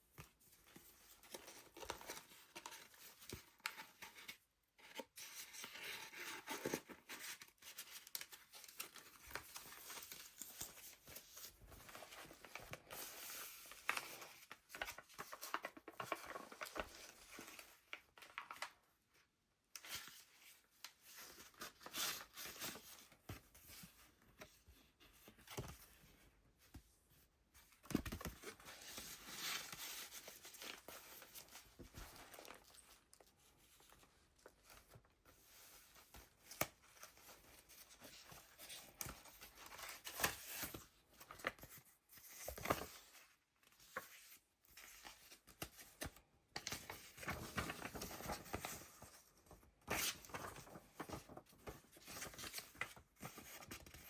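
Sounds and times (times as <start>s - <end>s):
paper pages rustling: 0.2s - 18.8s, 27.7s - 54.0s.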